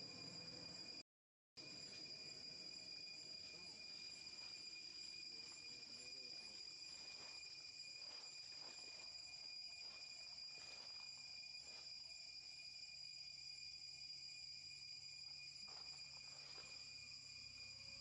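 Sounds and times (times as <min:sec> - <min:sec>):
insects chorus: 0:00.0 - 0:01.0, 0:01.6 - 0:18.0.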